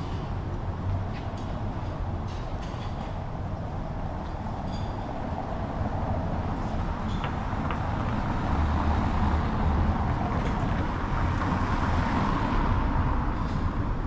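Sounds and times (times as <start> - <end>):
city street rumble and hiss: 0.0 - 14.0.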